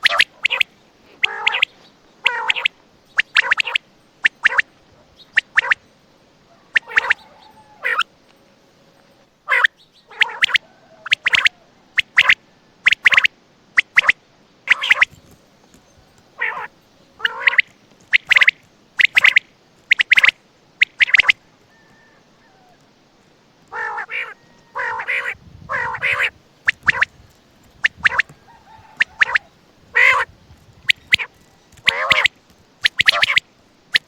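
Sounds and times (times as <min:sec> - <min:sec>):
quail calling: 0:00.0 - 0:05.9, 0:06.5 - 0:08.2, 0:09.5 - 0:22.9, 0:23.6 - 0:34.0.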